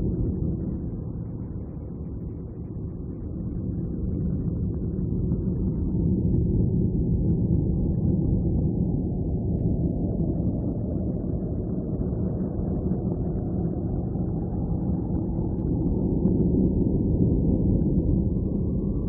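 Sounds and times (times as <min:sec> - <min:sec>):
deep rumbling drone: 0:00.0 - 0:19.0.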